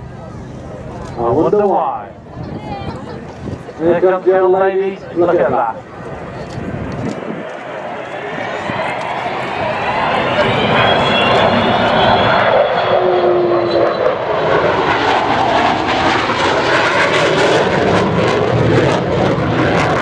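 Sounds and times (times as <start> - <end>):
propeller aircraft flying past: 0.0 - 20.0.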